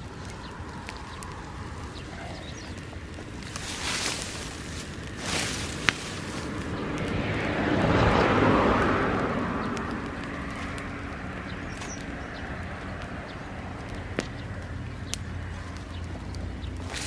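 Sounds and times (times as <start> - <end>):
bonfire crackling: 0.0 - 17.0.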